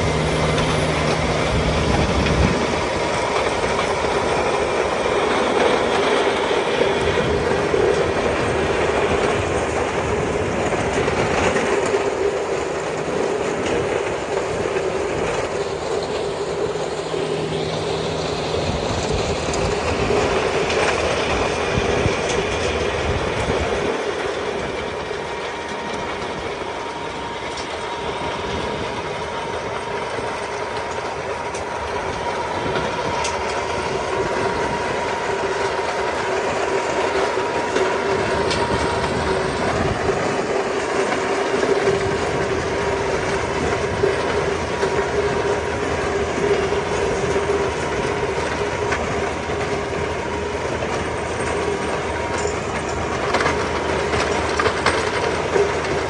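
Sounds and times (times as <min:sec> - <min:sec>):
power harrow churning soil: 0:00.0 - 0:56.0
tractor engine under load: 0:00.0 - 0:56.0.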